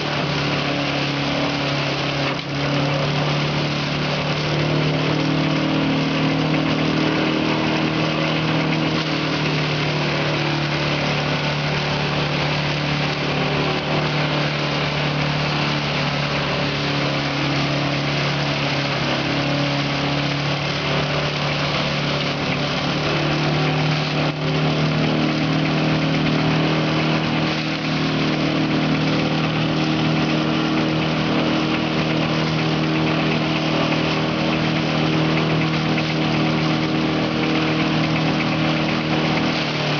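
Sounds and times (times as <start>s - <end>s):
shredder motor humming: 0.0s - 39.9s.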